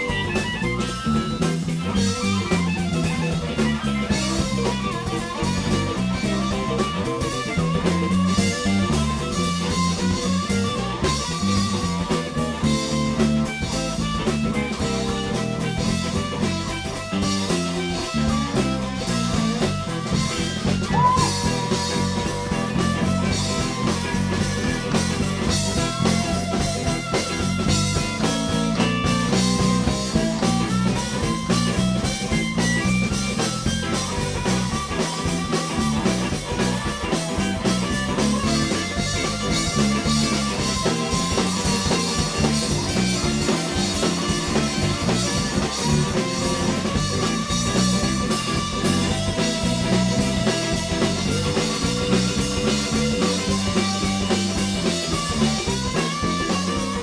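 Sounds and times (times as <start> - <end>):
harmonica through microphone: 0.0 - 57.0
live blues band playing: 0.0 - 57.0.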